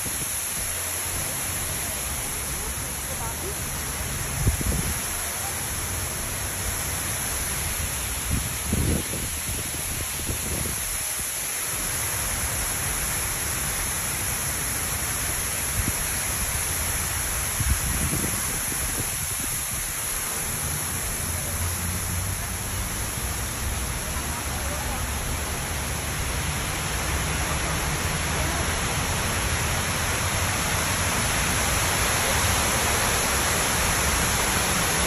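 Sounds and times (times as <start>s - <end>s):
water wall rushing hiss: 0.0s - 35.0s.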